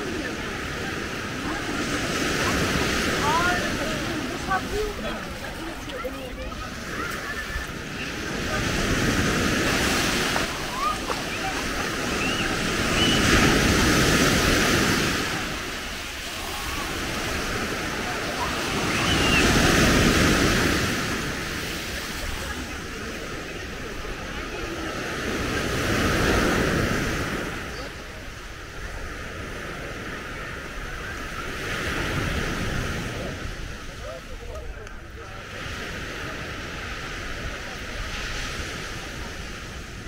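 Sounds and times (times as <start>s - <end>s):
surf breaking on shore: 0.0s - 40.0s.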